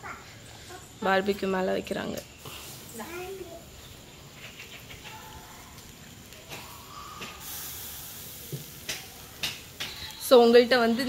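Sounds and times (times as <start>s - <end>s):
chicken sizzling on a grill: 0.2s - 11.0s.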